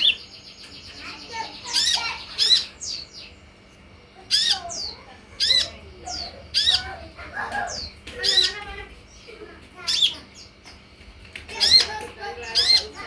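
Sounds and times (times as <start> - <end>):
soft bird twittering: 0.0 - 10.8, 11.5 - 13.0.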